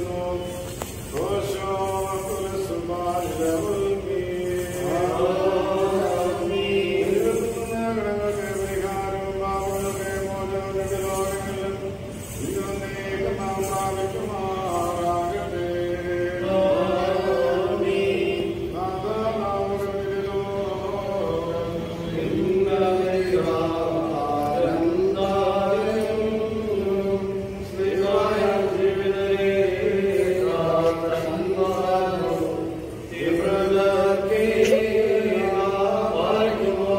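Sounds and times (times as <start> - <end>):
voices chanting a slow prayer: 0.0 - 36.9.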